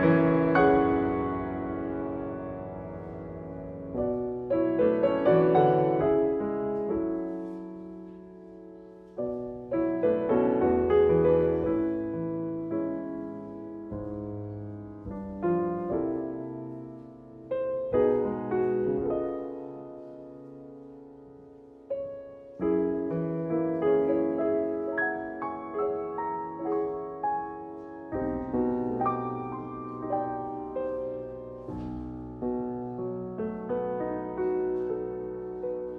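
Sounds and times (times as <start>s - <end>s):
solo piano piece: 0.0s - 35.9s.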